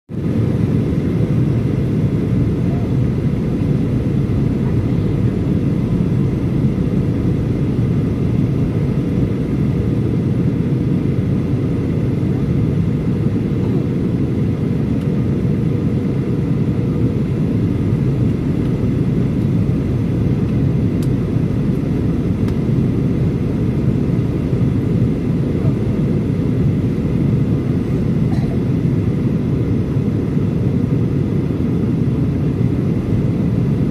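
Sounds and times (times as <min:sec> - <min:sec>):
airplane cabin rumble: 0:00.1 - 0:33.9.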